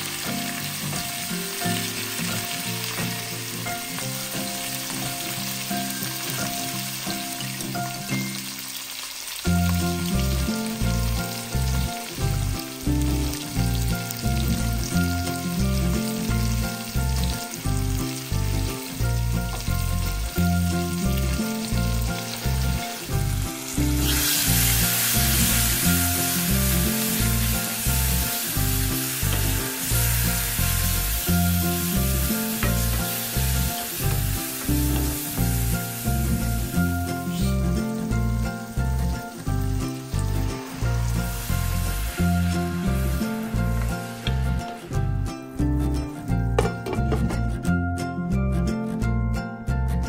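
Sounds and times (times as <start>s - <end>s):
vegetables sizzling in oil: 0.0s - 47.3s
background music with beat: 9.5s - 50.0s.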